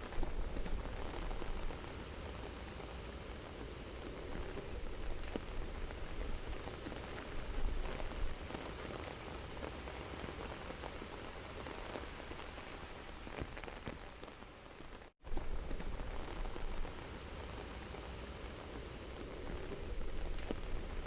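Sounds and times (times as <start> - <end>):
rain falling on foliage: 0.0 - 21.0.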